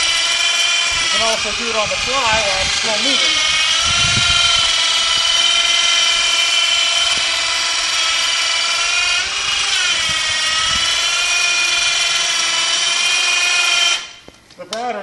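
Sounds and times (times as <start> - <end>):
electric motor whining: 0.0 - 14.3.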